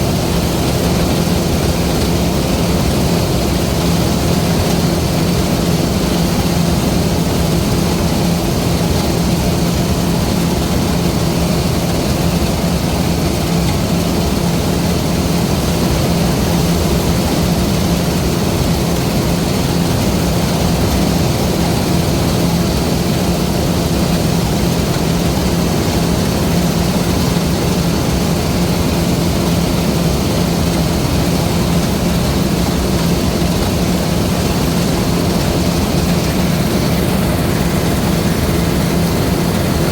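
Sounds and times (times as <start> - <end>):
combine harvester diesel drone: 0.0 - 39.9.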